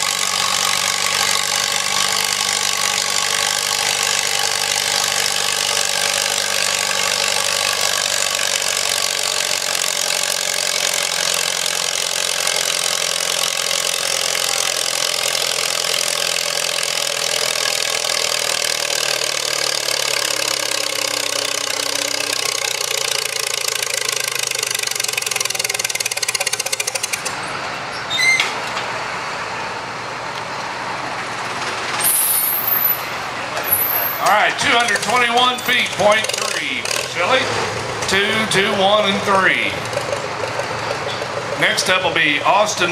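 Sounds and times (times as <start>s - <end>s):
tractor engine under load: 0.0s - 42.9s.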